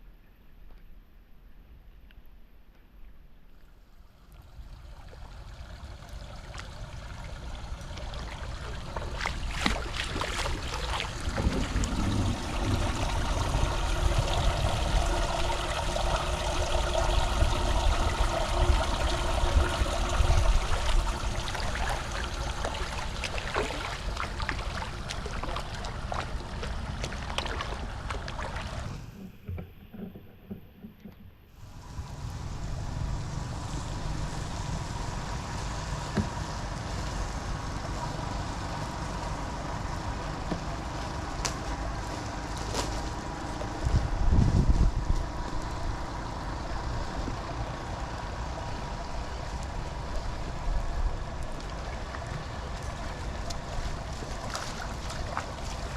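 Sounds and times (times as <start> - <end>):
floodwater rushing into drain: 4.2 - 29.2, 31.6 - 55.9.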